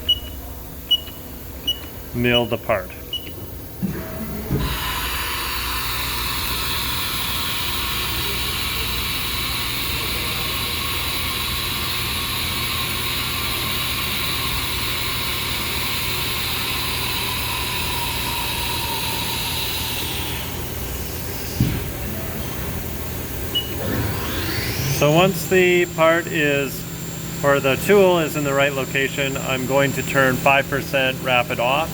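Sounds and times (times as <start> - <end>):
milling machine hiss and whine: 4.6 - 31.9.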